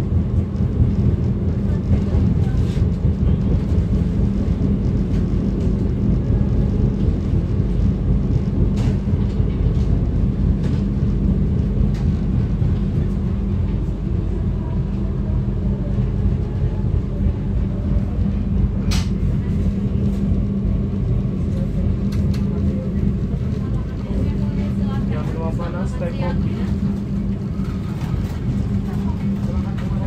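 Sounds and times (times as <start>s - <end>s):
low hum: 0.0s - 30.0s
train carriage rumbling on track: 0.0s - 30.0s.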